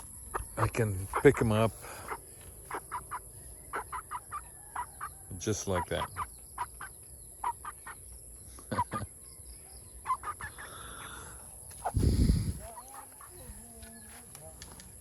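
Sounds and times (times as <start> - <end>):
chickens clucking: 0.0 - 9.2, 9.9 - 15.0.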